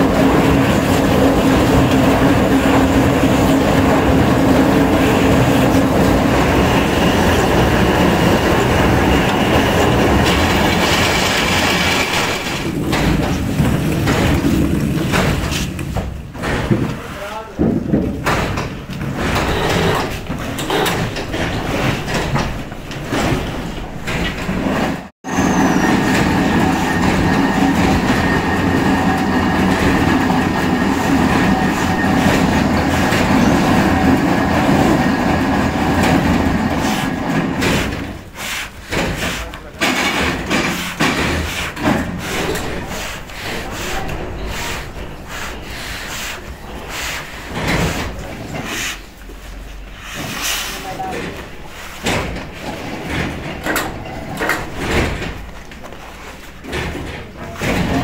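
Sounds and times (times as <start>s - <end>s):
factory machinery rattling: 0.0s - 58.0s.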